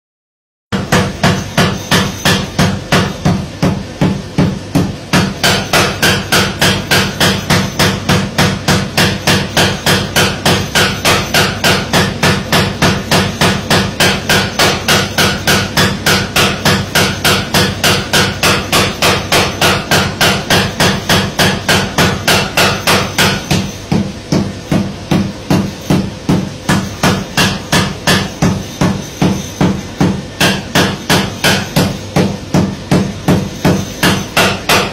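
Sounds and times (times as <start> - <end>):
power hammer pounding: 0.8 - 34.9.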